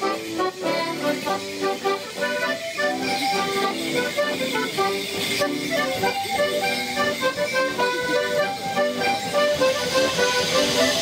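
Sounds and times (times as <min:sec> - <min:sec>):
accordions playing a dance tune: 0:00.0 - 0:11.0.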